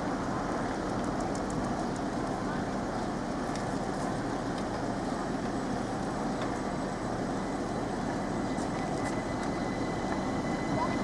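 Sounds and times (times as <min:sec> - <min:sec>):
electric train rumbling: 0:00.0 - 0:11.0
road traffic: 0:00.0 - 0:11.0.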